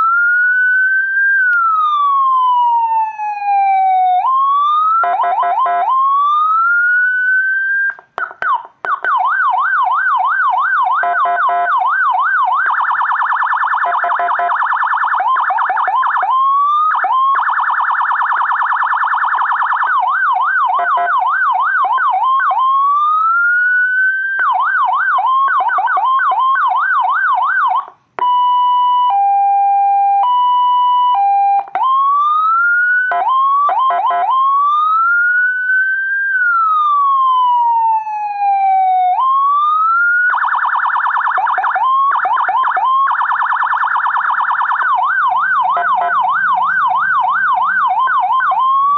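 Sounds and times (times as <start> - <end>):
electronic siren cycling tones: 0.0 - 48.9.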